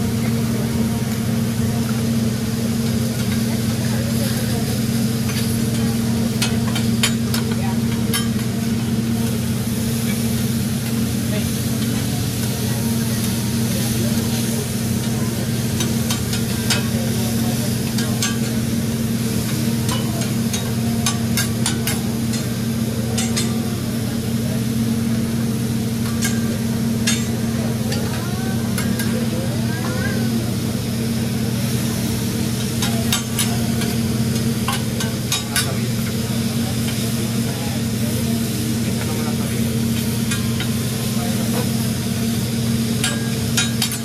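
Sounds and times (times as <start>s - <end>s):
food sizzling on griddle: 0.0s - 44.0s.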